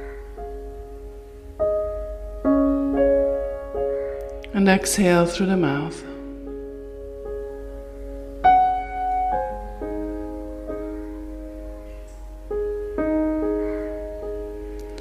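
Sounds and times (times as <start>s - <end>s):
slow soft piano music: 0.0s - 15.0s.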